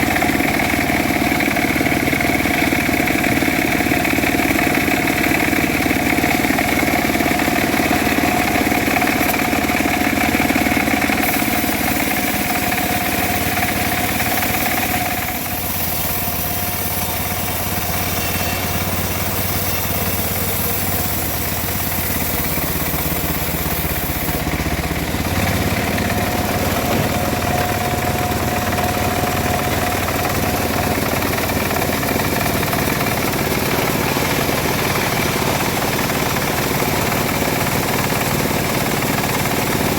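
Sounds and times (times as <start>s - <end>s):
bandsaw mill running: 0.0s - 39.9s.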